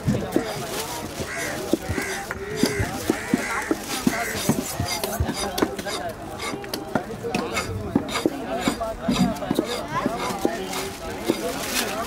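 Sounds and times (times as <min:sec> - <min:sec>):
voices talking: 0:00.0 - 0:12.0
knocks of chopping: 0:01.2 - 0:11.5.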